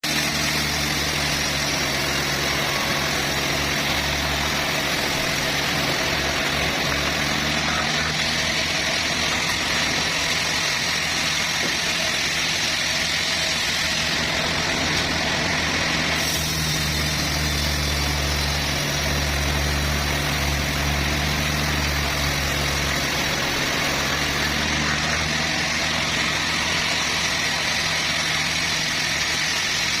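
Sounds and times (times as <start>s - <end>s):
sawmill machinery humming: 0.0s - 30.0s.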